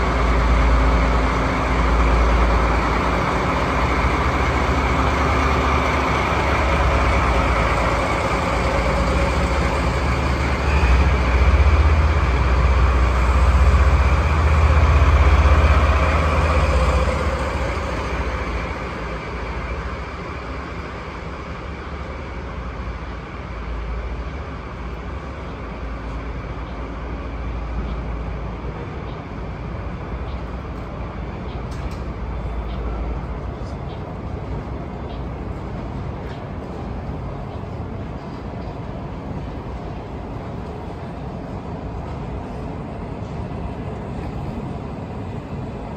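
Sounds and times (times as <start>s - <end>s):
diesel locomotive engine rumble: 0.0s - 45.9s.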